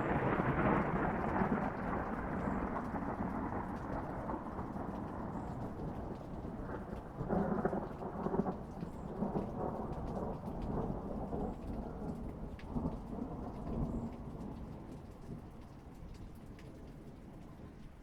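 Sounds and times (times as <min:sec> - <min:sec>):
thunder rumbling: 0:00.0 - 0:15.6
raindrop ticks: 0:00.0 - 0:18.0
steady rain: 0:00.0 - 0:18.0.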